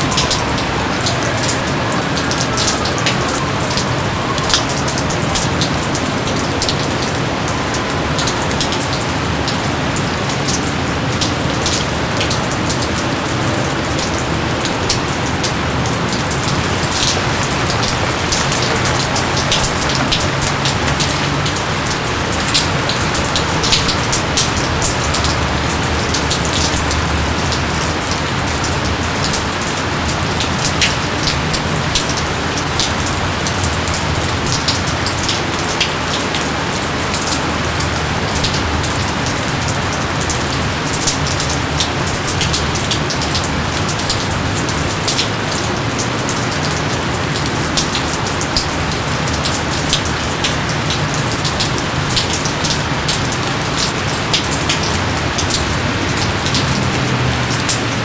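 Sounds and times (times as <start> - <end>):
loud rain: 0.0 - 58.0
raindrops ticking on surfaces: 0.0 - 58.0.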